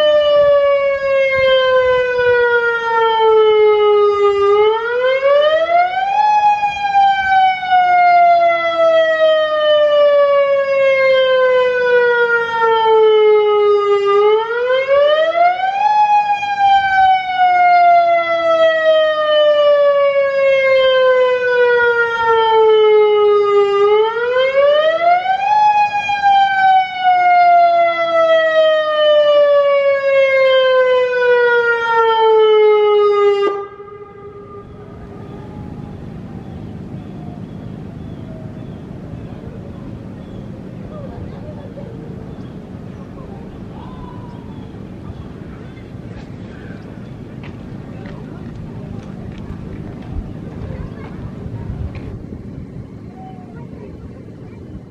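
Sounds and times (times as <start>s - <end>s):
rising and falling warning siren: 0.0s - 54.9s.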